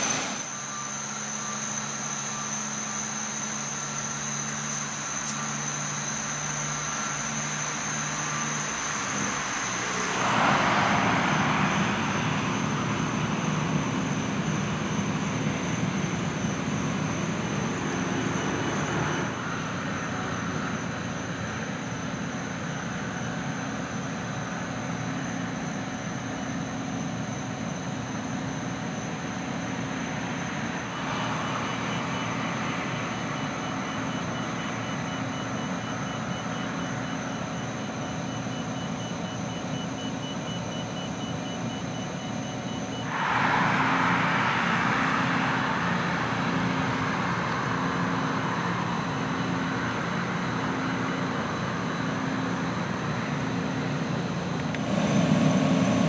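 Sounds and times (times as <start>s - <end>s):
truck engines rumbling: 0.9s - 27.2s, 27.9s - 56.0s.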